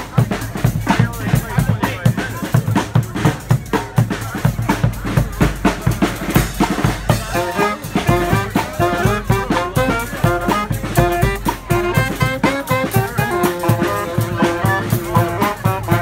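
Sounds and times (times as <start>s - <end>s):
brass horns playing melody: 0.0s - 16.0s
drums beating fast: 0.0s - 16.0s.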